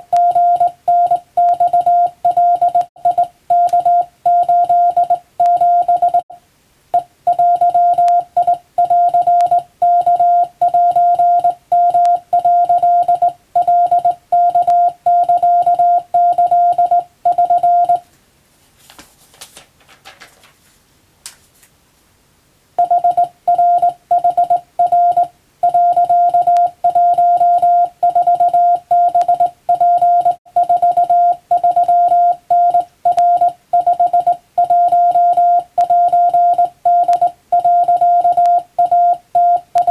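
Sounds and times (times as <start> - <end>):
morse code tone: 0.0 - 6.3, 7.0 - 18.0, 22.8 - 39.9.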